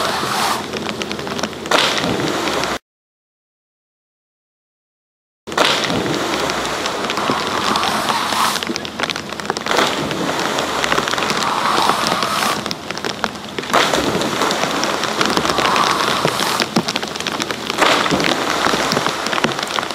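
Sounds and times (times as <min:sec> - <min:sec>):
rushing water hiss: 0:00.0 - 0:02.8, 0:05.6 - 0:19.9.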